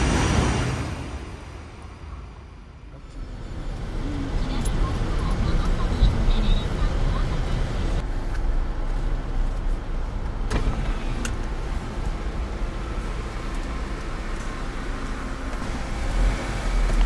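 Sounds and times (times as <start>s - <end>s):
car engine rumbling from inside: 2.8s - 17.0s.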